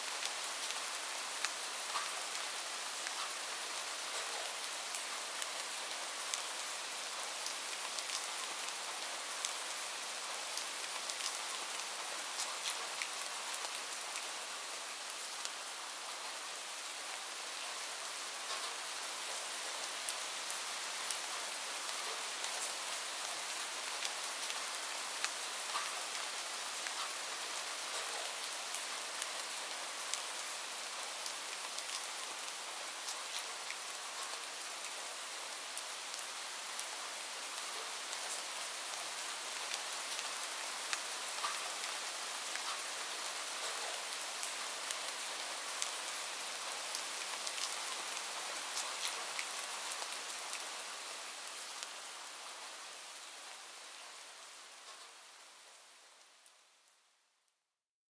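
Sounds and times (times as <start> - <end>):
light rain hissing: 0.0 - 57.4.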